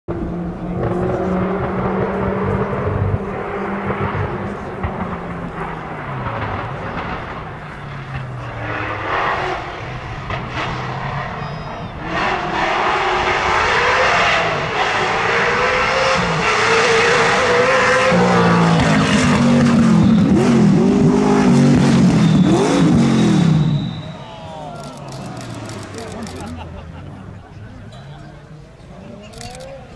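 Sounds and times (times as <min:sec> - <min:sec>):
rally car engine revving: 0:00.1 - 0:24.2.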